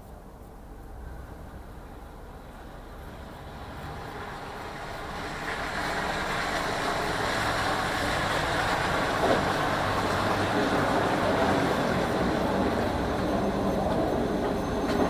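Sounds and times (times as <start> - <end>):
large vehicle rumble: 0.0 - 15.0.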